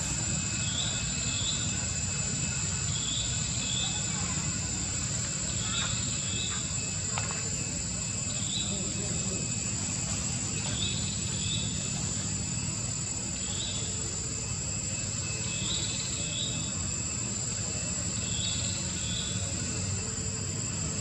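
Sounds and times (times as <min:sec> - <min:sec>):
high-pitched insect drone: 0:00.0 - 0:21.0
insect chirps: 0:00.0 - 0:21.0.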